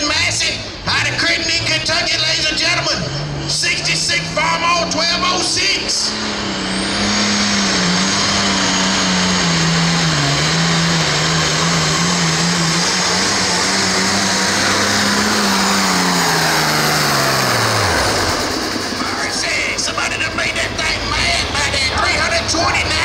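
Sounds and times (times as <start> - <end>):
tractor diesel engine at full power: 0.0 - 23.0.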